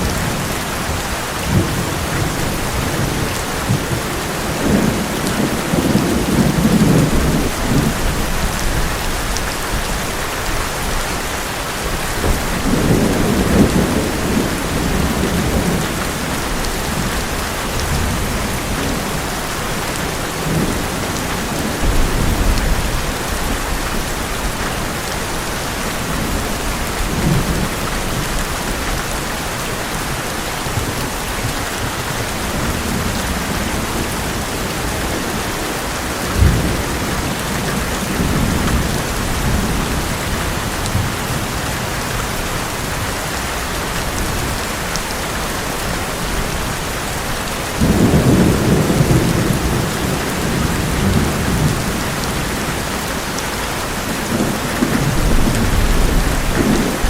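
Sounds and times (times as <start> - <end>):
thunder rumbling: 0.0 - 11.0, 11.8 - 29.0, 29.9 - 57.0
heavy rain on a metal roof: 0.0 - 57.0.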